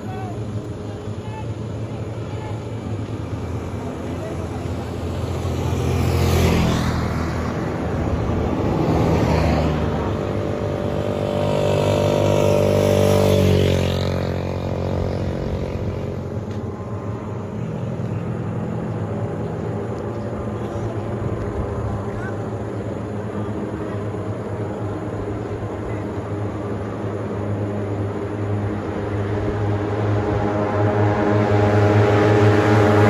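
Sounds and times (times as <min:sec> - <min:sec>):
motorcycle sidecar engine passing: 0:00.0 - 0:33.0
passing traffic: 0:00.0 - 0:33.0.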